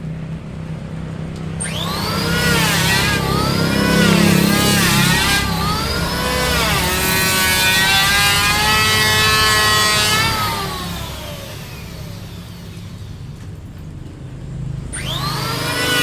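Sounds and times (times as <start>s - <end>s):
power tool cutting wood: 1.6s - 13.5s, 14.9s - 16.0s.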